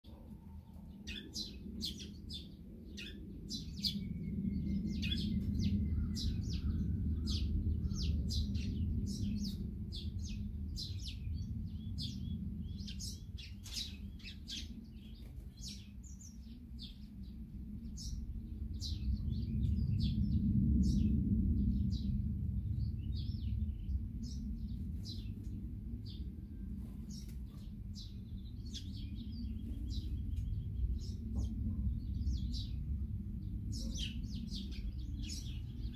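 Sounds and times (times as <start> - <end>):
small songbirds chirping: 0.0 - 35.9
steady low rumble: 0.0 - 35.9.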